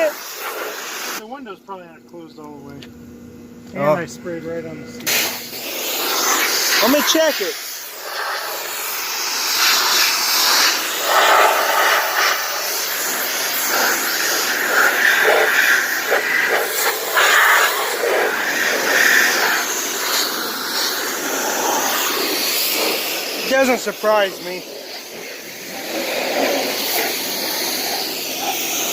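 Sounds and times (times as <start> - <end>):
pressure washer jet hissing: 0.0 - 1.2, 5.0 - 28.9.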